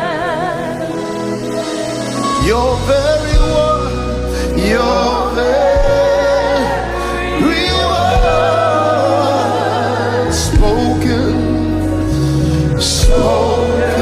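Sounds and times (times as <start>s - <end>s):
bass accompaniment: 0.0s - 14.0s
gospel singing with vibrato: 0.0s - 14.0s
keyboard: 0.0s - 14.0s.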